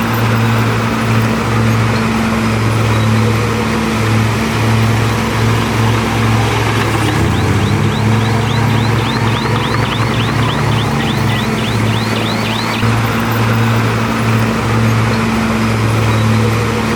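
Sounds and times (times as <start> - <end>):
heavy diesel engine droning: 0.4 - 15.2.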